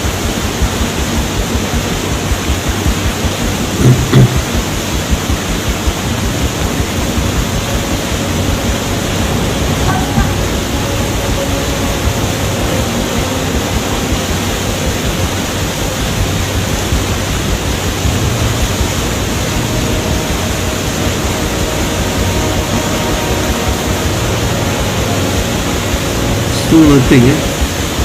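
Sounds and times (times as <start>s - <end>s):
loud waterfall rush: 0.0s - 28.0s.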